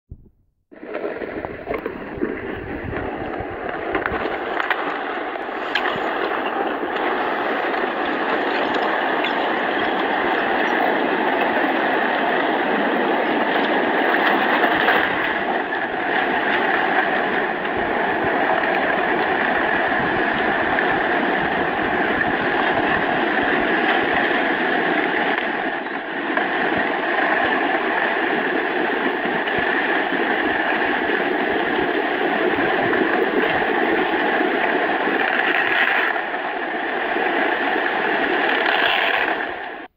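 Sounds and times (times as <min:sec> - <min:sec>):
rushing water and moving earth: 0:00.1 - 0:39.9.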